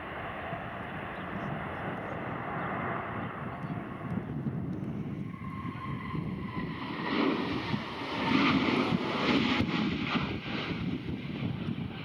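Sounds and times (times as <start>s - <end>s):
jet engine on takeoff: 0.0s - 12.0s
wind buffeting microphone: 0.0s - 12.0s.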